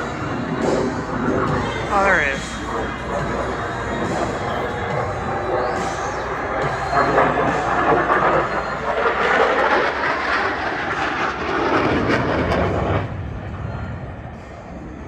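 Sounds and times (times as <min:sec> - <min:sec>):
jet engine roaring past: 0:00.0 - 0:15.0.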